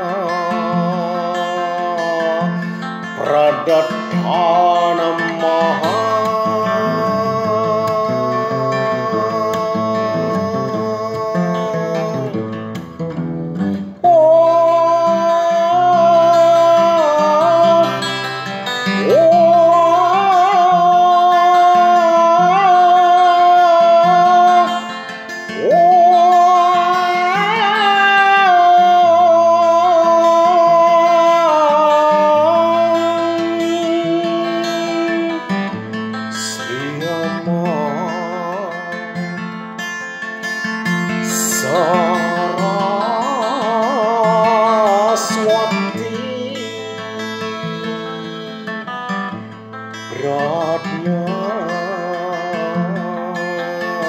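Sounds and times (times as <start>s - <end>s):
wordless wavering singing voice: 0.0s - 12.7s, 13.9s - 35.7s, 36.3s - 39.4s, 41.2s - 49.3s, 50.0s - 54.0s
plucked acoustic guitar: 0.0s - 54.0s.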